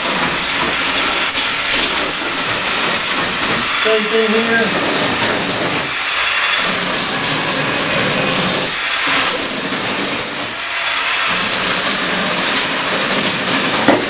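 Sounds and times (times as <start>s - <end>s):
power tool cutting foam: 0.0s - 14.0s.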